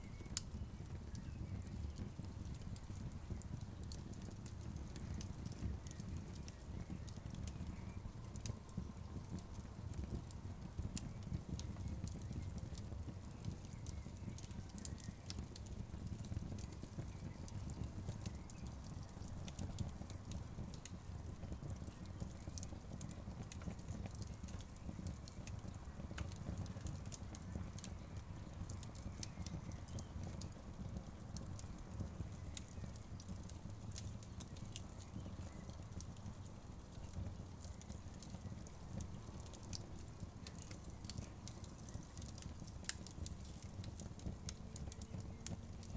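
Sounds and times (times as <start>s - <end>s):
logs crackling in a fireplace: 0.0s - 45.9s
low fire rumble: 0.0s - 45.9s.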